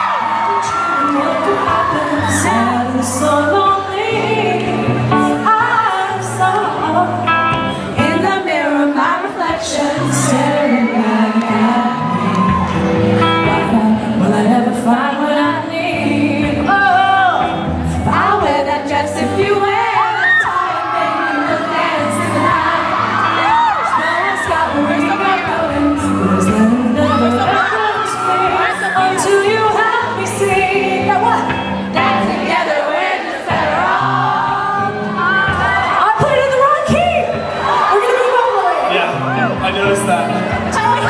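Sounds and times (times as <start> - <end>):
people singing: 0.0 - 12.7, 13.4 - 37.0
live pop band music: 0.0 - 41.0.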